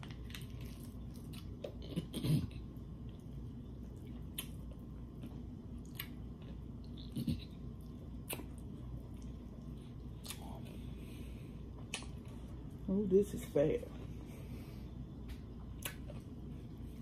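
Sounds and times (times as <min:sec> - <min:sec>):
chewing and wet squishing: 0:00.0 - 0:12.9, 0:15.2 - 0:17.0
low steady hum: 0:00.0 - 0:17.0.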